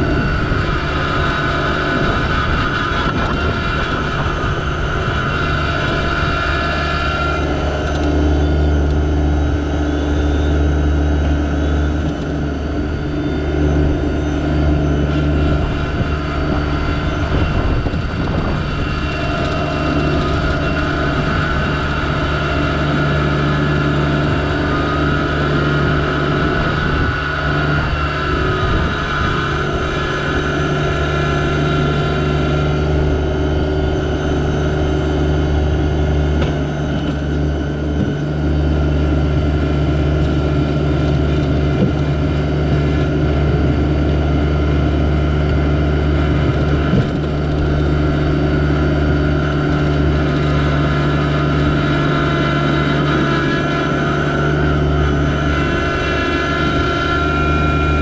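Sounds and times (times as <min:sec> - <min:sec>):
high whine: 0:00.0 - 0:58.0
tractor diesel engine running: 0:00.0 - 0:58.0.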